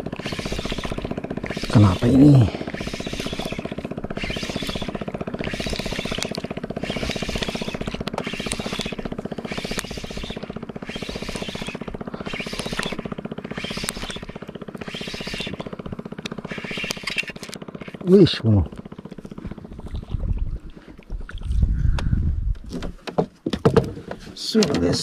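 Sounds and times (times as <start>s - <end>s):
small boat engine running: 0.0s - 25.0s.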